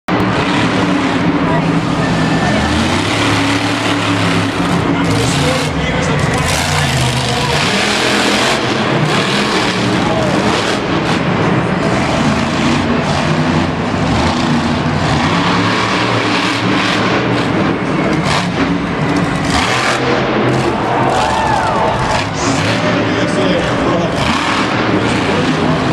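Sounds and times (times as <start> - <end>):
monster truck engine revving: 0.1 - 25.9.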